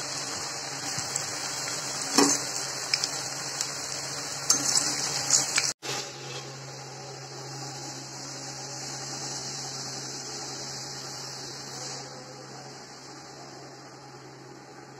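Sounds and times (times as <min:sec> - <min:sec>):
food deep-frying in oil: 0:00.0 - 0:12.2.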